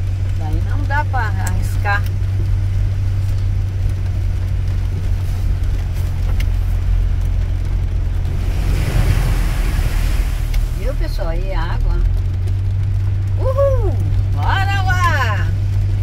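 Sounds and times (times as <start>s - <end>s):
engine and road noise drone: 0.0s - 16.0s
wet tyres hissing: 0.9s - 16.0s.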